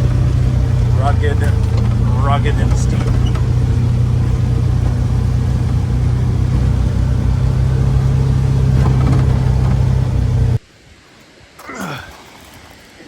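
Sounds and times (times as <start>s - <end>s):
road noise: 0.0s - 10.6s
vehicle engine drone: 0.0s - 10.6s.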